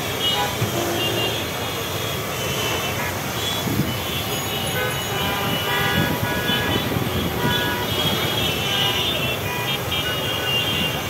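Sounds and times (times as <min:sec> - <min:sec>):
hubbub of large crowd: 0:00.0 - 0:11.0
street traffic: 0:00.0 - 0:11.0
vehicle horns honking: 0:00.0 - 0:11.0.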